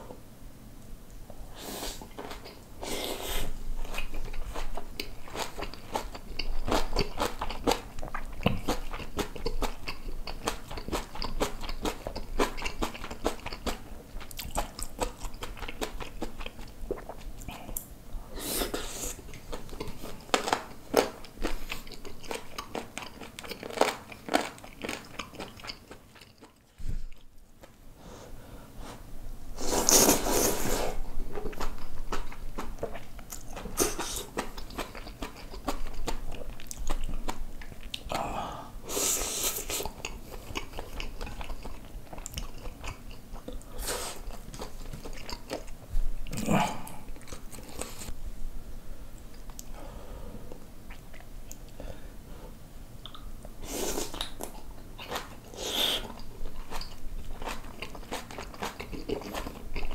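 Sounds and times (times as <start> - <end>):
person chewing and biting food: 2.0 - 17.8, 18.6 - 27.8, 29.7 - 38.2, 39.5 - 48.1, 53.1 - 59.9.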